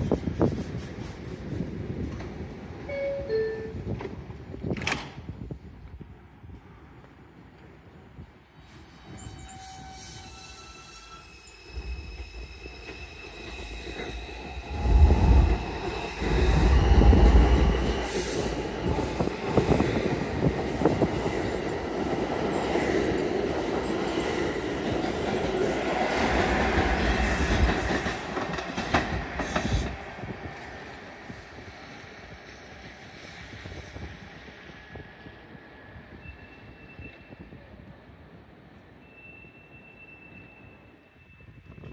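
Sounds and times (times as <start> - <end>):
train cars rumbling and clacking: 0.0 - 41.9.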